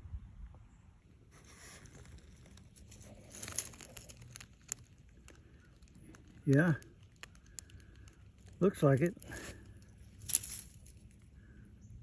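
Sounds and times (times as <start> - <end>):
faint rustling and crinkling: 1.0 - 11.6.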